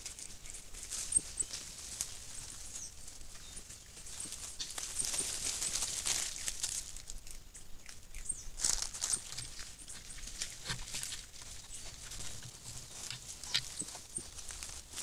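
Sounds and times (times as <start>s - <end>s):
footsteps in dry leaves: 0.0s - 7.2s, 8.6s - 15.0s.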